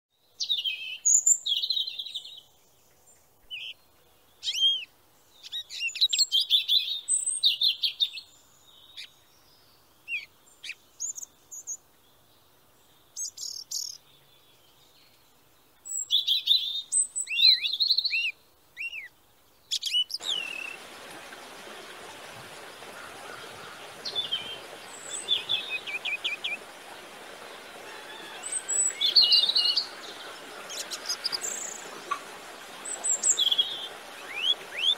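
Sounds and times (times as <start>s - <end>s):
steady outdoor hiss: 0.1s - 34.9s
small birds chirping: 0.2s - 34.9s.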